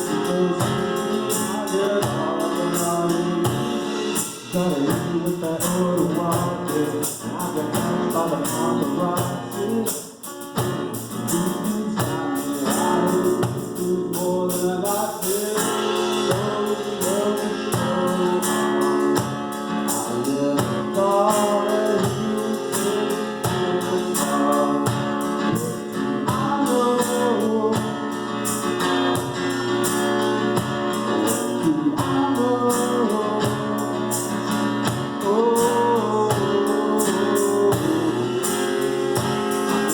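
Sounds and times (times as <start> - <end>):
acoustic guitar: 0.0 - 39.9
man singing: 0.0 - 39.9
percussion beat: 0.0 - 39.9.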